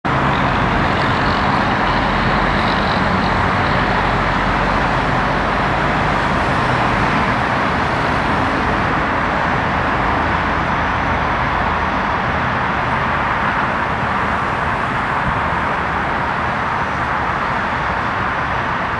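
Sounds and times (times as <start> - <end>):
steady road traffic: 0.0 - 18.9.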